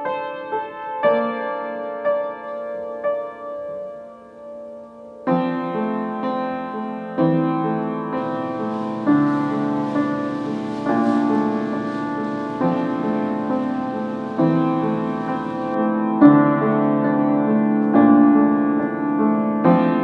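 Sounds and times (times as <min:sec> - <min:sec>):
piano playing slow chords: 0:00.0 - 0:20.0.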